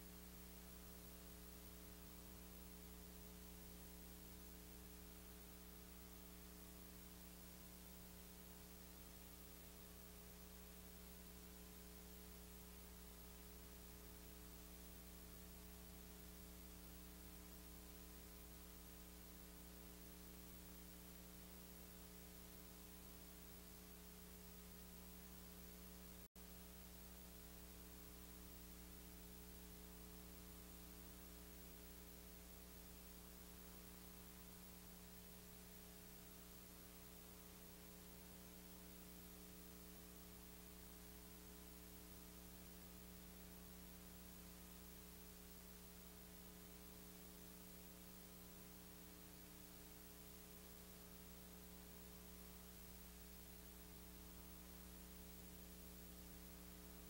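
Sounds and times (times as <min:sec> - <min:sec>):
faint electrical hum: 0:00.0 - 0:57.0
low hiss: 0:00.0 - 0:57.0.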